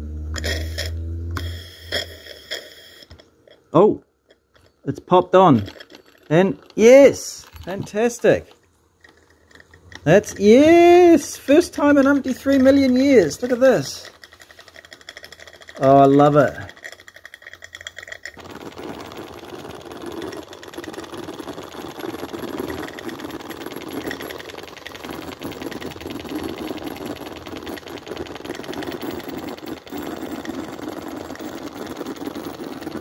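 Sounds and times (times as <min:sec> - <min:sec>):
traction engine clattering: 0:01.9 - 0:33.0.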